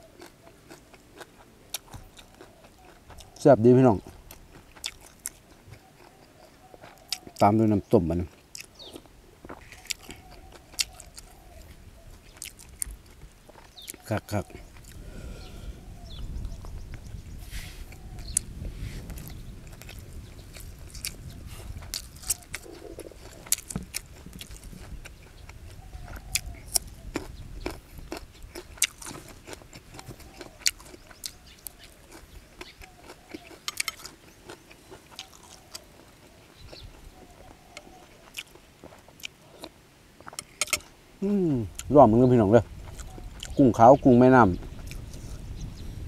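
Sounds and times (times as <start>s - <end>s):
person chewing and crunching food: 0.0s - 17.2s, 17.8s - 41.9s, 42.6s - 43.6s, 44.6s - 45.4s.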